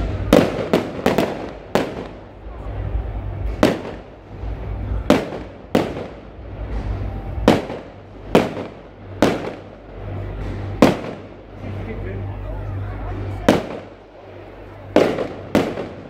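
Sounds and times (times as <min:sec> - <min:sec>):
fireworks bursting with echo: 0:00.0 - 0:16.0.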